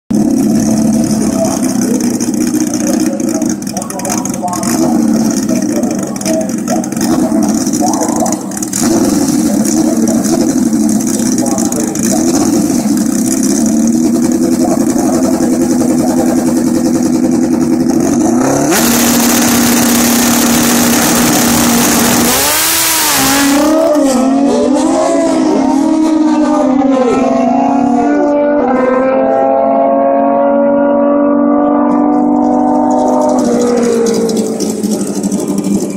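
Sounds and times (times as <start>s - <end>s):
motorcycle engines revving: 0.1s - 35.9s.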